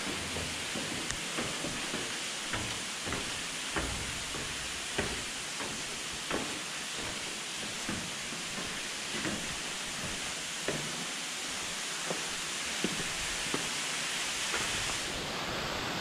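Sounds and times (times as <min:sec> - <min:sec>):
footsteps on stone steps: 0:00.0 - 0:15.1
rushing water: 0:00.0 - 0:16.0.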